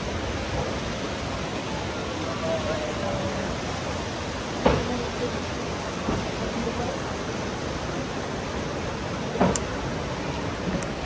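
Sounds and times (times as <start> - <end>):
rushing mountain creek: 0.0 - 11.0.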